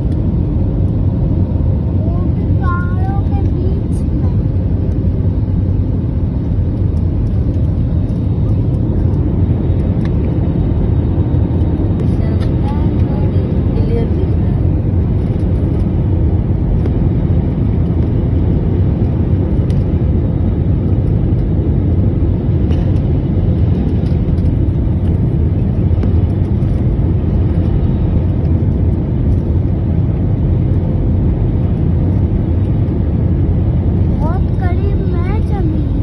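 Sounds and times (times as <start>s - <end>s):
airliner cabin engine drone: 0.0s - 36.0s.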